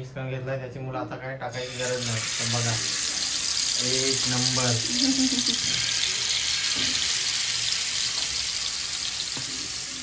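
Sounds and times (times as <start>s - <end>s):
chicken sizzling in hot oil: 1.5s - 10.0s.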